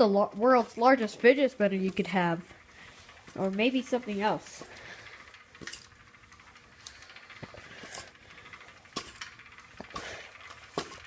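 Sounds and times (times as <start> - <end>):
fan blades soft swishes: 0.0 - 11.0.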